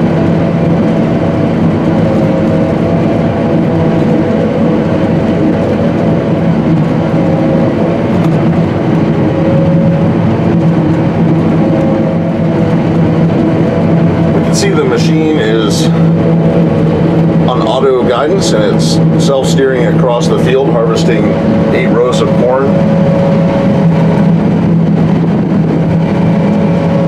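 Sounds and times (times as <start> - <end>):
loud machine drone: 0.0 - 27.0.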